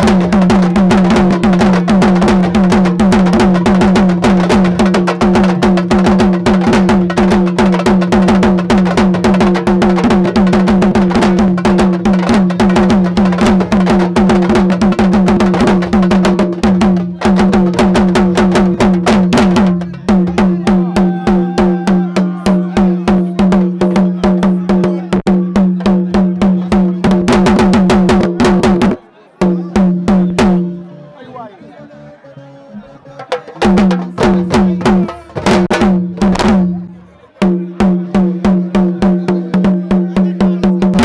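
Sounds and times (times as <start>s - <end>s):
fast hand drumming: 0.0s - 30.8s, 33.2s - 41.0s.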